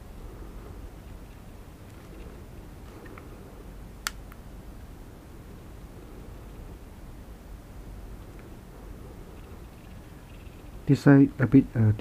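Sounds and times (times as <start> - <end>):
background hiss: 0.0 - 12.0
low hum: 0.0 - 12.0.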